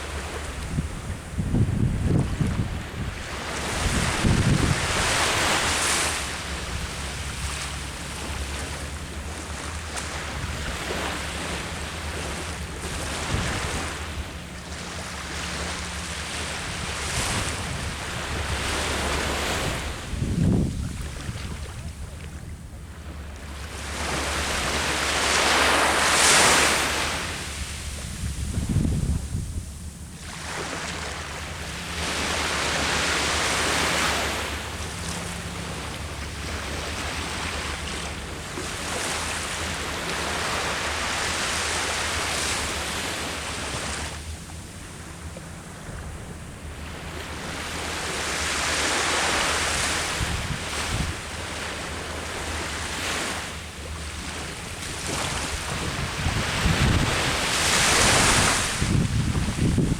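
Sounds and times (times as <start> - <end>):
sea waves breaking: 0.0 - 59.9
wind rumbling on microphone: 0.0 - 59.9.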